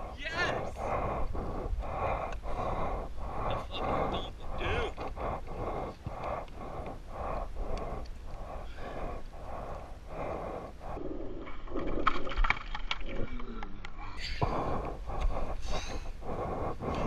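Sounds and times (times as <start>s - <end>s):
person breathing hard: 0.0s - 11.4s, 14.0s - 17.0s.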